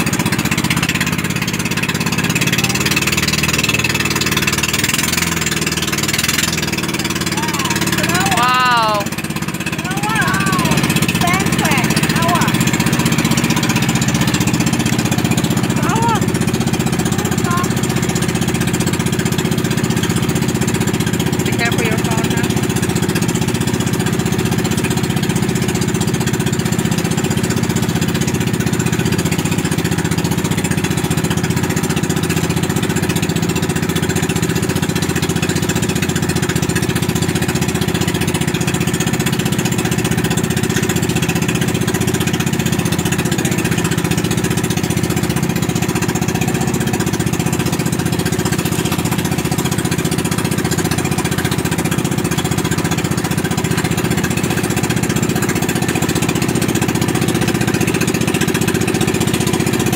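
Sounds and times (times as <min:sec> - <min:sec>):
boat engine running loudly: 0:00.0 - 0:59.9.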